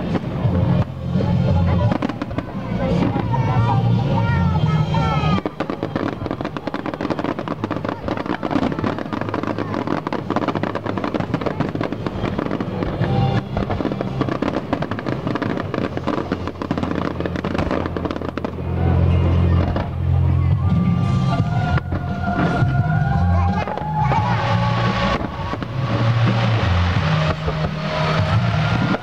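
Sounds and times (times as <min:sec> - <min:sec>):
fireworks crackling and popping: 0:00.0 - 0:29.0
music soundtrack: 0:00.0 - 0:29.0.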